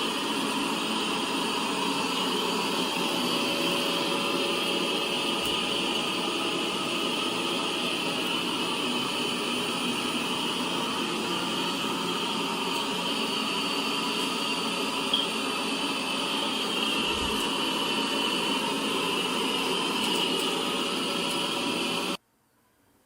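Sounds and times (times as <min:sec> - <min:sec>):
robot vacuum whirring: 0:00.0 - 0:22.2.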